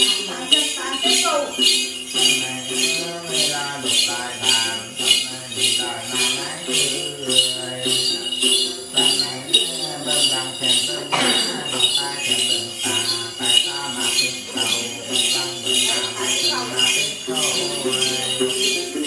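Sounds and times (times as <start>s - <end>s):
jingle bells shaken: 0.0s - 19.0s
person singing: 0.0s - 19.0s.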